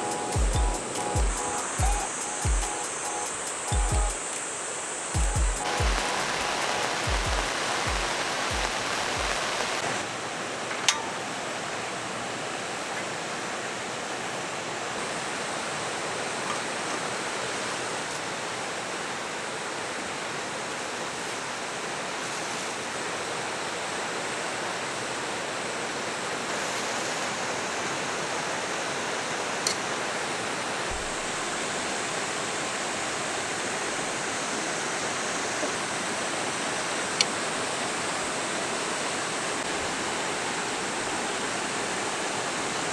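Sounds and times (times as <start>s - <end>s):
stream rushing: 0.0s - 42.9s.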